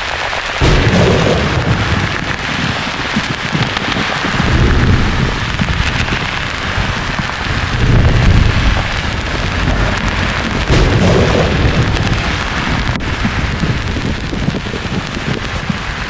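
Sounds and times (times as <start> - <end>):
thunder rumbling: 0.4 - 16.0.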